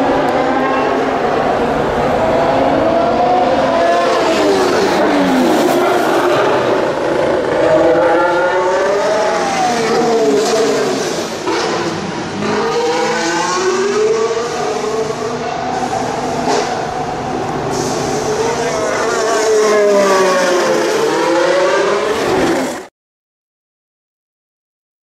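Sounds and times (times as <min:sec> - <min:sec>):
race cars passing: 0:00.0 - 0:22.9.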